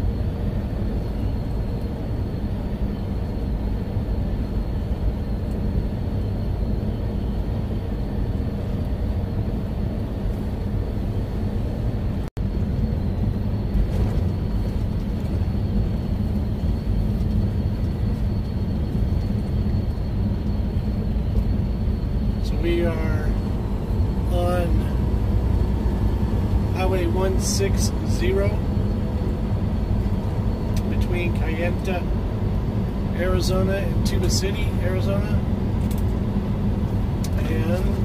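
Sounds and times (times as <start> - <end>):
diesel engine droning: 0.0 - 38.0
faint high whine: 0.0 - 38.0
road rumble: 0.0 - 38.0.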